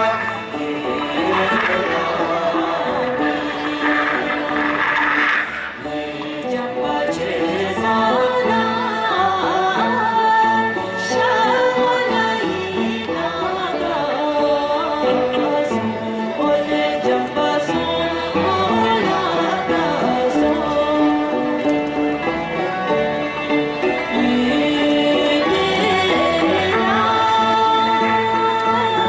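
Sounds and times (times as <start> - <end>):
instrumental accompaniment: 0.0 - 29.0
voices singing folk song: 0.0 - 29.0.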